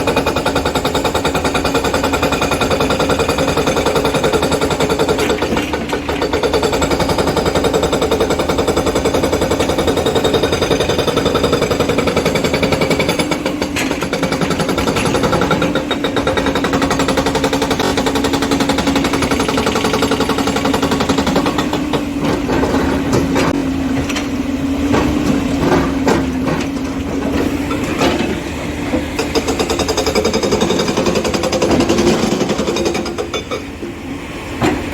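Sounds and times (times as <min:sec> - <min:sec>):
hydraulic breaker pounding stone: 0:00.0 - 0:33.9.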